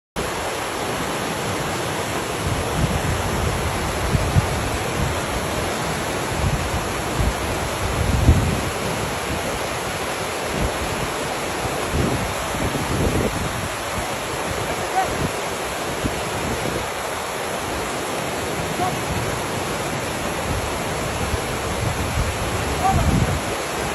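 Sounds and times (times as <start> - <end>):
whitewater rapids rushing: 0.2 - 23.9
wind buffeting microphone: 2.1 - 23.9.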